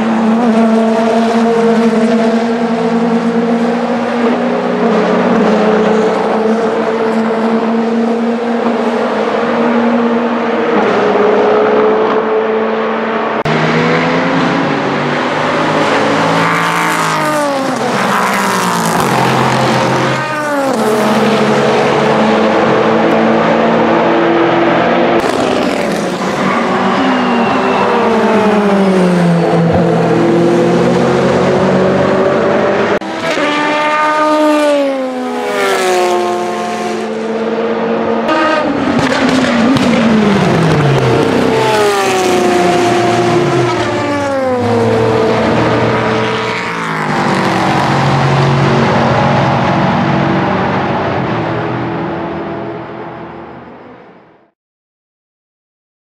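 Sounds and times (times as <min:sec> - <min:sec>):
race cars passing at speed: 0:00.0 - 0:54.2.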